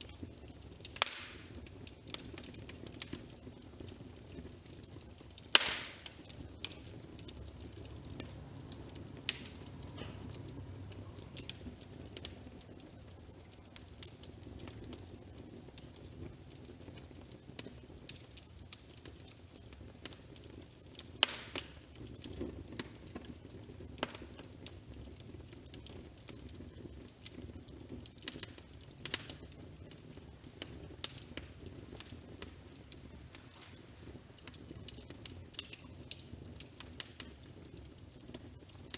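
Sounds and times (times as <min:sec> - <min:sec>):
fire pops and snaps: 0:00.0 - 0:38.9
wood fire crackling: 0:00.0 - 0:38.9.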